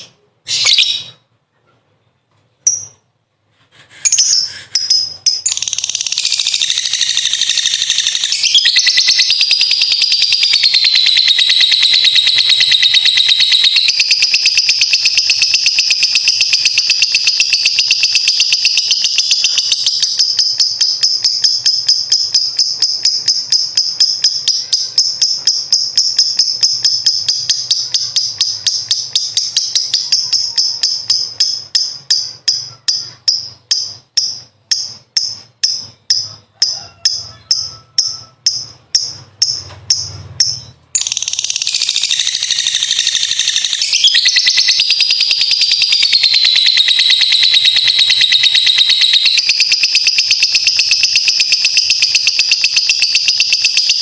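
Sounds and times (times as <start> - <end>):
lovebird chattering trill: 4.1 - 54.0.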